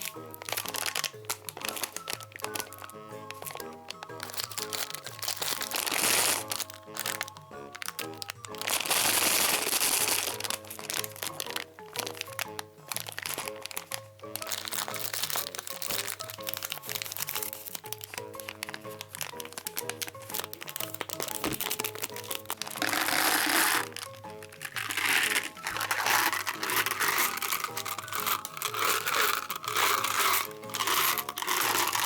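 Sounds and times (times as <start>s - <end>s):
candy wrapper crinkling: 0.0s - 32.0s
light plucked background music: 0.0s - 32.0s.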